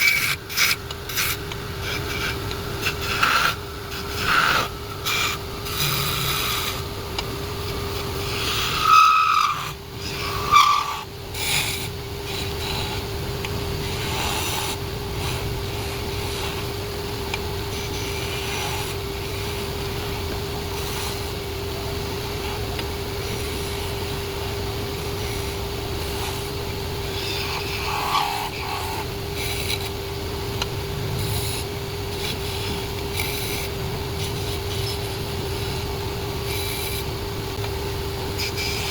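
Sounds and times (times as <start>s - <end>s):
tool rasping on spinning wood: 0.0s - 38.9s
wood lathe motor hum: 0.0s - 38.9s.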